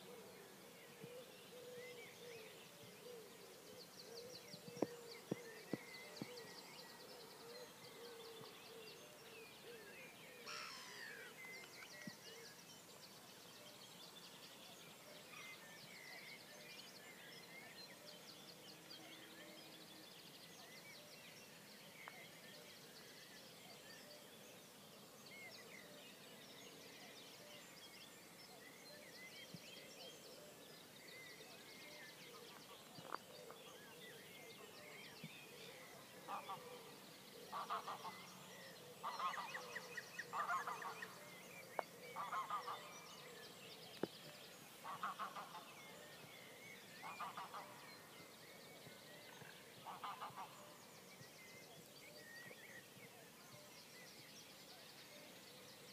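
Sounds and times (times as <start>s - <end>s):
songbirds dawn chorus: 0.0s - 55.9s.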